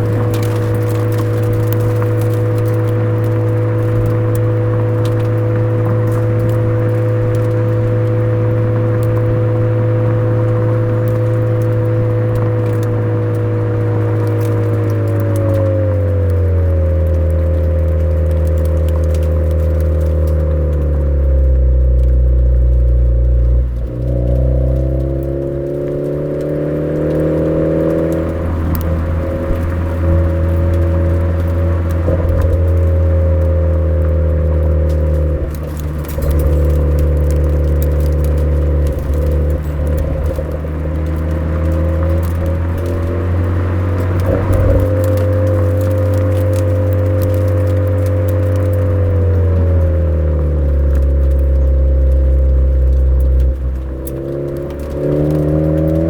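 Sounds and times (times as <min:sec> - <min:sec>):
car engine running: 0:00.0 - 0:56.0
light ticks: 0:00.0 - 0:56.0.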